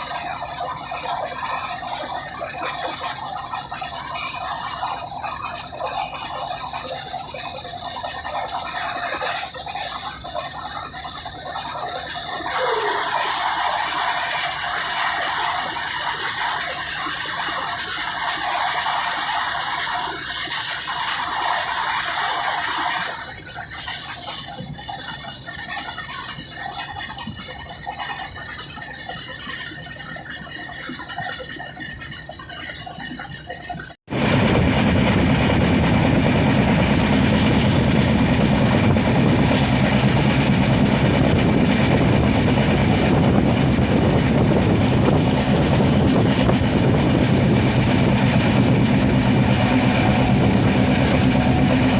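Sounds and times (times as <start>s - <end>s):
passenger train running: 0.0s - 24.7s, 33.0s - 51.9s.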